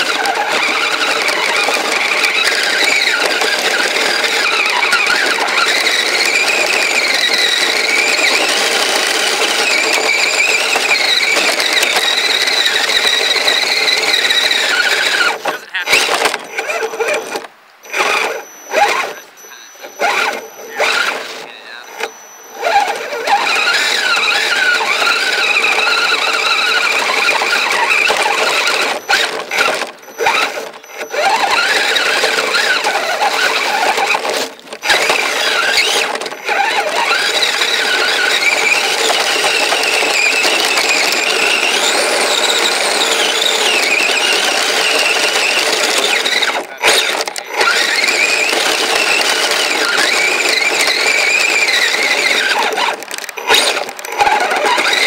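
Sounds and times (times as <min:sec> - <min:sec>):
toy motor whining: 0:00.0 - 0:55.0.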